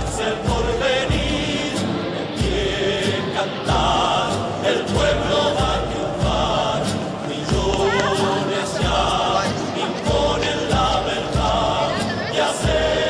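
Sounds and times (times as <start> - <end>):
choir singing over a beat: 0.0 - 13.0.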